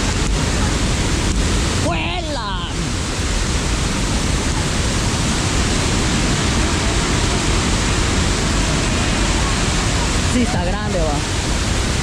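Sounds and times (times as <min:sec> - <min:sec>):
floodwater pouring over a dam: 0:00.0 - 0:12.0.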